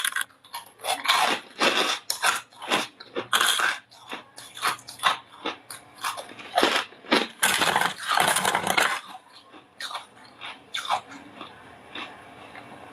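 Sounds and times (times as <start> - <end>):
crunching frost while chewing: 0.0 - 12.2.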